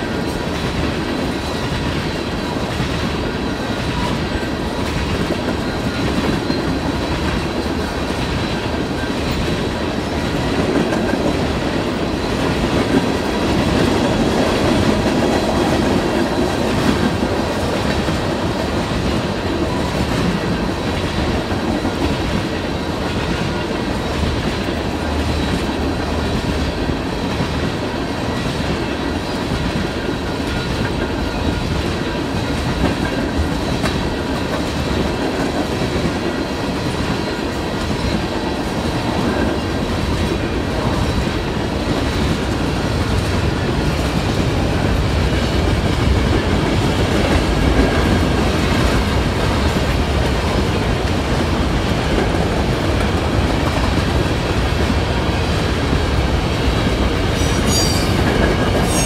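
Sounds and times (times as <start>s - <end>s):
freight train wheels clattering: 0.0s - 59.0s.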